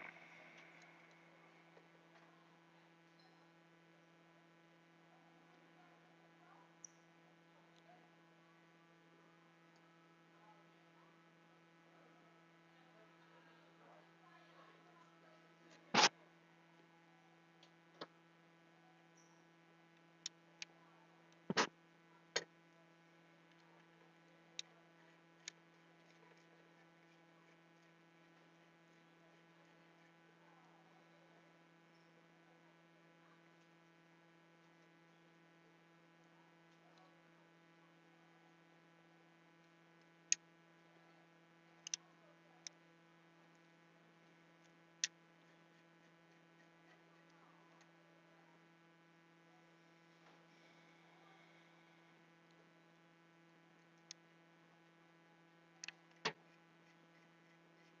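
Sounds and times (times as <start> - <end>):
low mains hum: 0.0 - 58.0.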